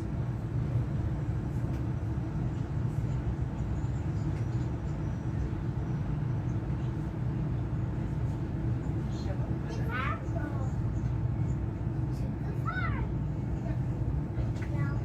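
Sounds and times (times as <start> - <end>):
train interior hum and rumble: 0.0 - 15.0.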